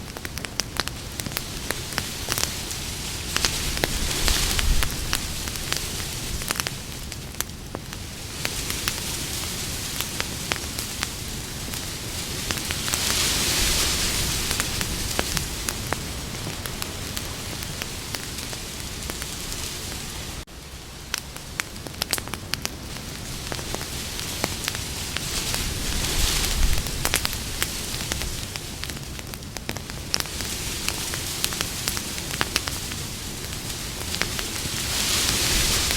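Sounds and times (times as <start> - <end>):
campfire crackling: 0.0 - 35.9
steady hiss: 0.0 - 35.9.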